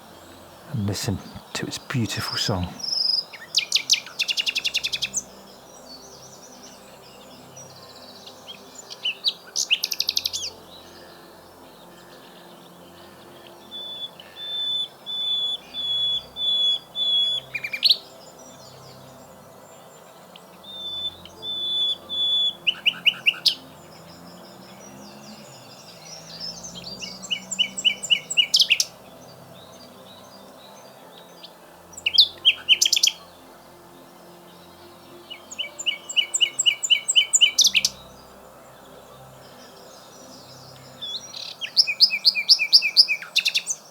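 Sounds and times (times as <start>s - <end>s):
nightingale singing: 0.0s - 43.9s.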